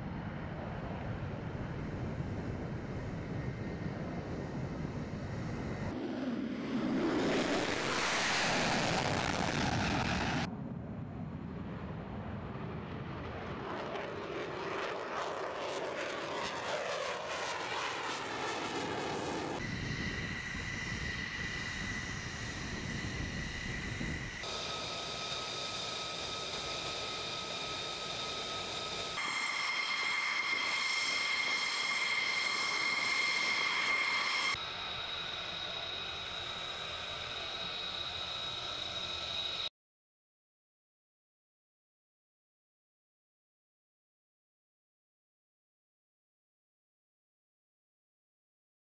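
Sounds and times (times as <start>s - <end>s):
jet engine roar: 0.0s - 39.7s
jet engine whine: 0.0s - 39.7s
wavering jet roar: 0.0s - 39.7s.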